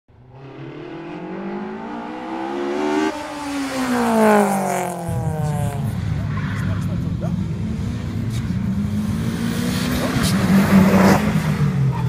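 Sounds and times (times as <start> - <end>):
car engine accelerating and passing: 0.1 - 12.0.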